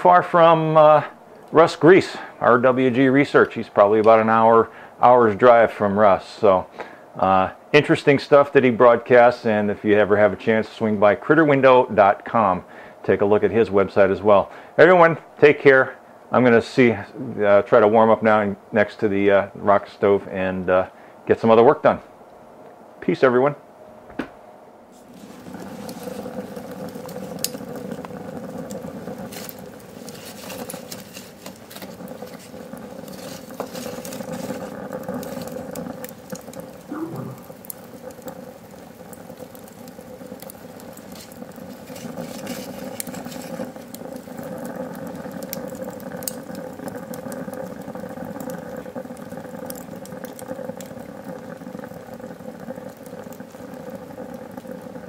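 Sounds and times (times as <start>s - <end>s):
wood fire crackling: 0.0s - 22.0s, 24.9s - 55.0s
fire draft roar: 0.0s - 55.0s.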